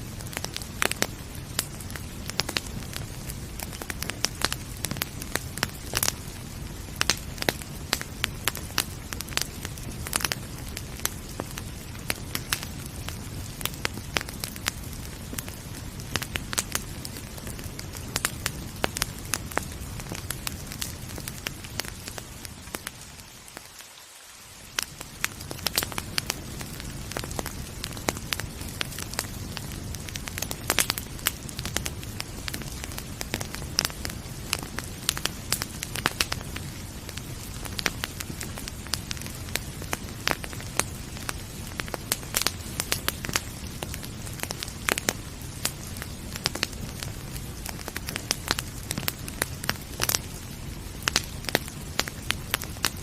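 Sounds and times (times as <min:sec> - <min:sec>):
rain hiss: 0:00.0 - 0:53.0
wood fire crackling and popping: 0:00.0 - 0:53.0.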